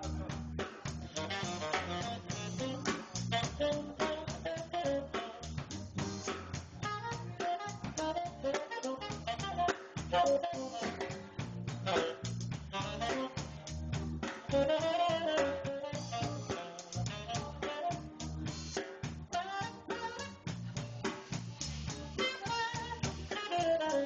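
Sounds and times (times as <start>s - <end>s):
drum kit: 0.0s - 24.0s
low bass notes: 0.0s - 24.0s
saxophone melody: 1.0s - 21.1s, 21.8s - 24.0s.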